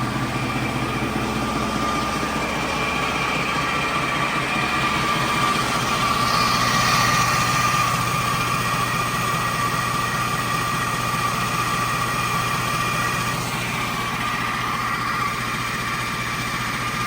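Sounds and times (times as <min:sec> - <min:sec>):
constant whine: 0:00.0 - 0:17.0
diesel engine idling: 0:00.0 - 0:17.0.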